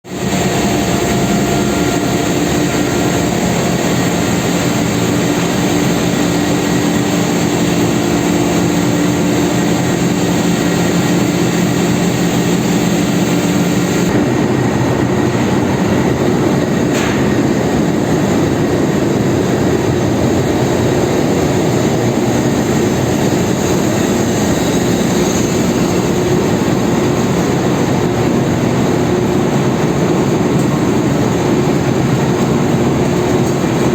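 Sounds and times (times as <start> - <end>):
engine room machinery noise: 0.0 - 33.9
steady hum: 0.1 - 33.9.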